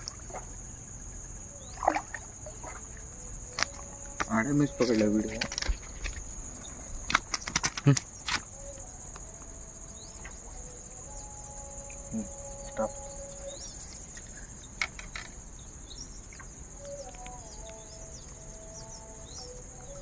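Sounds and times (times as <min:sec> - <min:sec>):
insects droning: 0:00.0 - 0:20.0
bird chirps: 0:00.3 - 0:09.2, 0:09.9 - 0:20.0.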